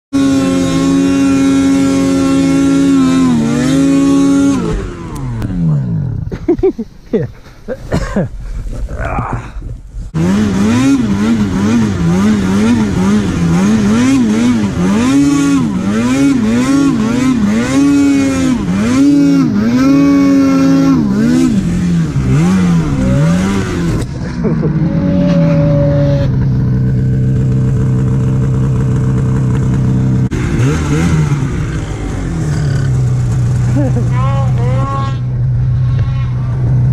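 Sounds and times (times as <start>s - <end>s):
snowmobile engine revving: 0.1s - 7.2s, 10.1s - 36.9s.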